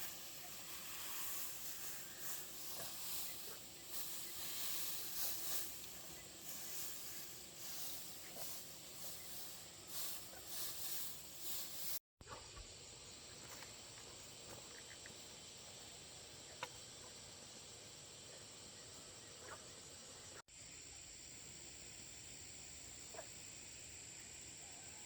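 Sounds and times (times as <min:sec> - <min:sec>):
background hiss: 0:00.0 - 0:25.0
high-pitched insect chorus: 0:00.0 - 0:25.0.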